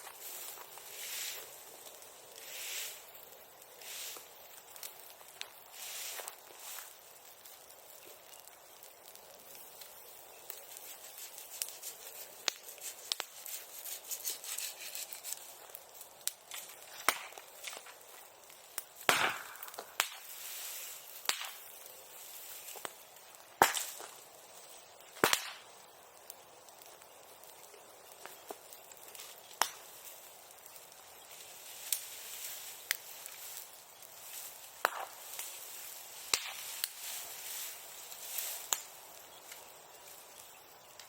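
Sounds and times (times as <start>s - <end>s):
burning wood popping: 0.0s - 41.0s
wood fire crackling: 0.0s - 41.0s.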